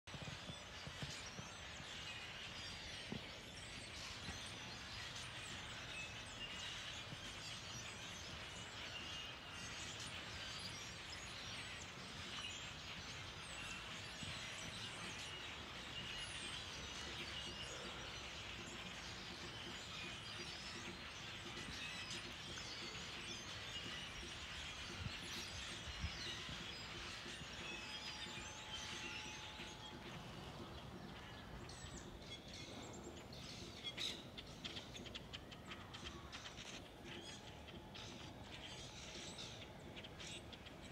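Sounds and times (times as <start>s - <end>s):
small birds chirping: 0.1s - 40.9s.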